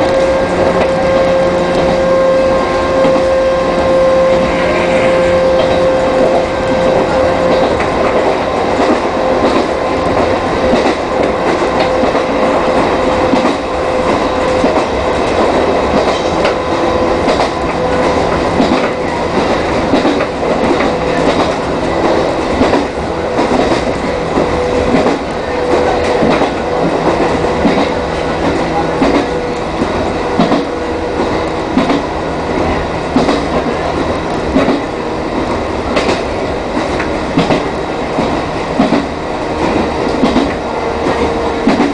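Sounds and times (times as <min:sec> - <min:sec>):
train wheels clacking over rail joints: 0:00.0 - 0:41.9
train whine: 0:00.0 - 0:41.9.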